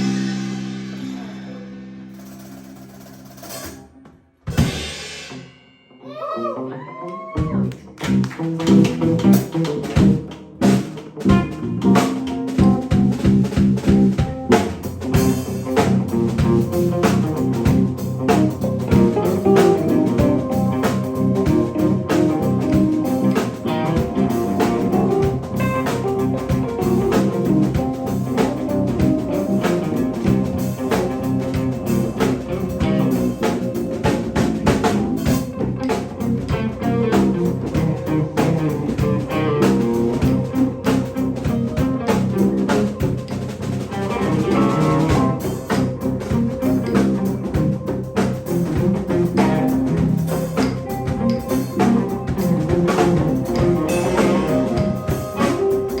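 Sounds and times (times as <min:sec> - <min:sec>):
electric guitar: 0:00.0 - 0:05.4, 0:06.0 - 0:56.0
drum kit: 0:00.0 - 0:06.2, 0:07.4 - 0:56.0.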